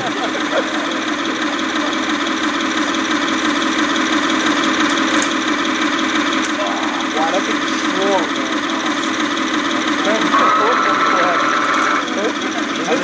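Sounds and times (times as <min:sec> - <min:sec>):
toy excavator mechanical drone: 0:00.0 - 0:13.0.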